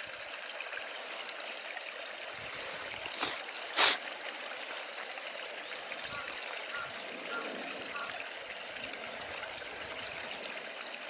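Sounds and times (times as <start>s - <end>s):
stream of water running: 0.0s - 11.0s.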